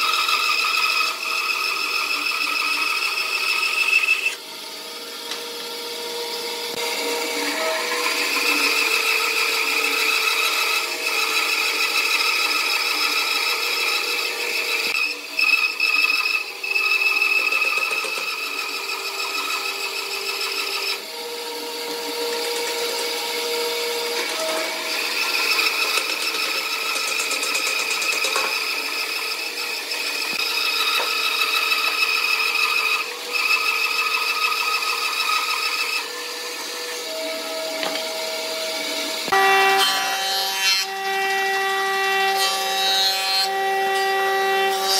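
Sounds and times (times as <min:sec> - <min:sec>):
band saw cutting wood: 0:00.0 - 0:44.9.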